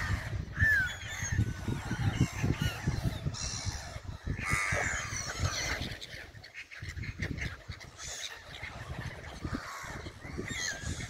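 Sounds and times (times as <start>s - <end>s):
gulls calling: 0.0s - 11.0s.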